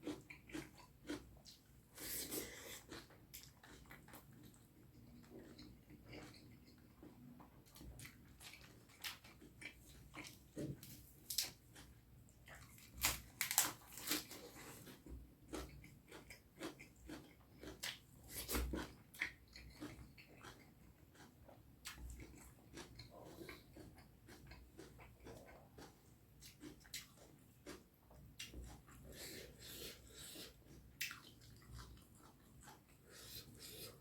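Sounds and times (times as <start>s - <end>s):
person eating with wet smacks: 0.0s - 34.0s.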